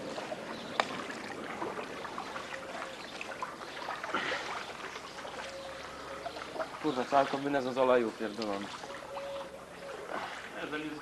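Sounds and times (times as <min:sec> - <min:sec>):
paddles splashing in water: 0:00.0 - 0:11.0
water dripping: 0:00.0 - 0:11.0.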